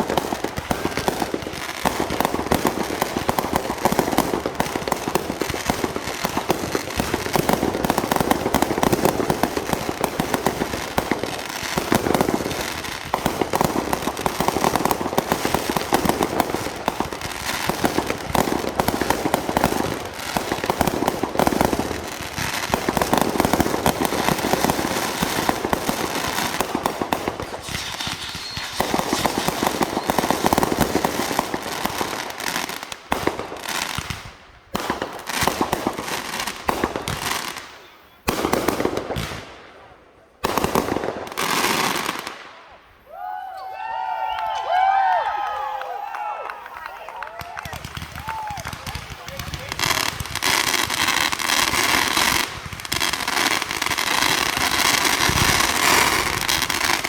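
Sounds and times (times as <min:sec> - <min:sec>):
fireworks crackling: 0:00.0 - 0:57.0.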